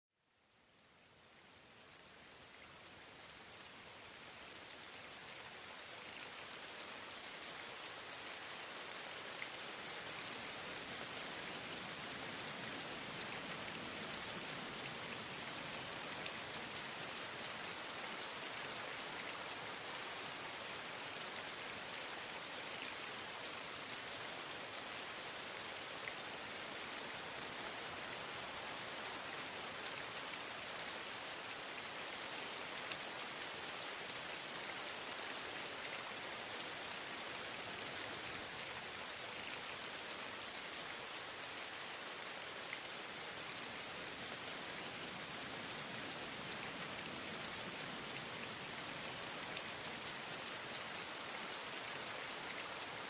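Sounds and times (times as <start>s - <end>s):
steady rainfall: 0.2s - 53.0s.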